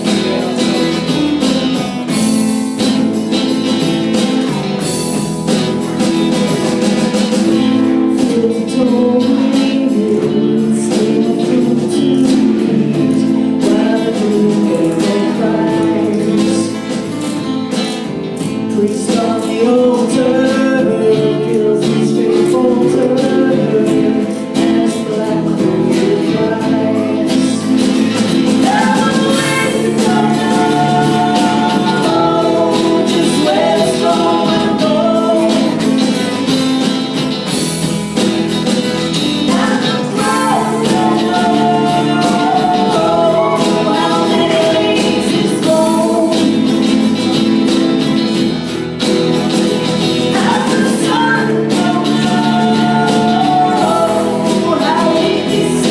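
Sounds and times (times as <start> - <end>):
strummed guitar: 0.0 - 55.9
person singing: 7.1 - 17.5, 18.3 - 37.6, 39.1 - 48.4, 50.0 - 55.9.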